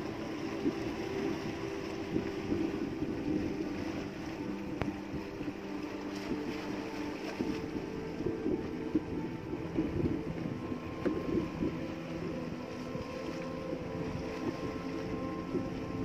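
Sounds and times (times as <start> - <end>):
boat engine running: 0.0 - 16.0
wind on microphone: 0.0 - 16.0.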